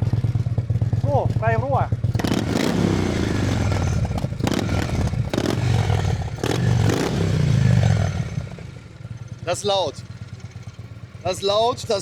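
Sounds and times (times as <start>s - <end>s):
loud motorcycle engine revving: 0.0s - 12.0s.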